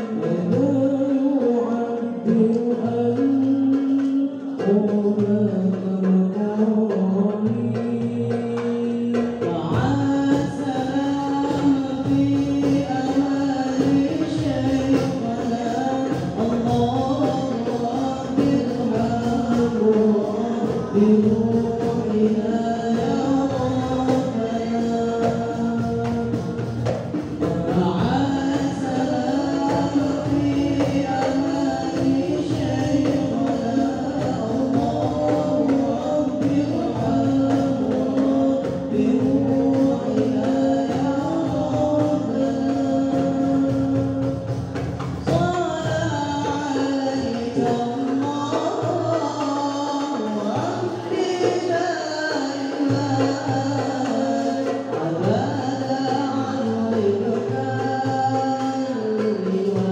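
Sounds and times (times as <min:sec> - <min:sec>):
frame drum beating: 0:00.0 - 0:59.9
men singing devotional song: 0:00.0 - 0:59.9.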